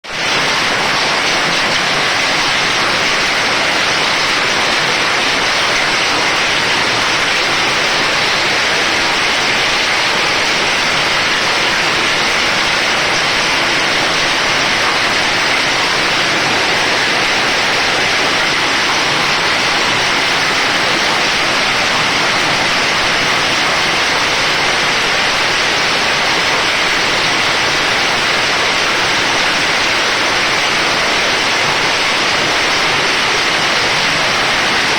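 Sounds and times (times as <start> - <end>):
heavy rain and hail falling: 0.0 - 34.9.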